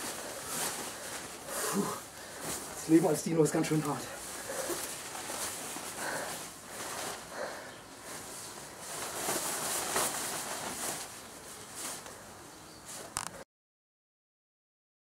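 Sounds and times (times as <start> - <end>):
thin fabric rustling and crumpling: 0.0 - 13.4.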